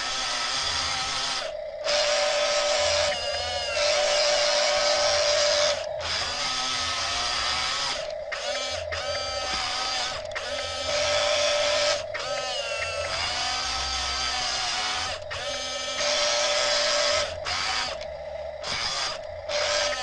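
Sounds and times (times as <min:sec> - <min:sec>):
toy electric motor whining: 0:00.0 - 0:20.0.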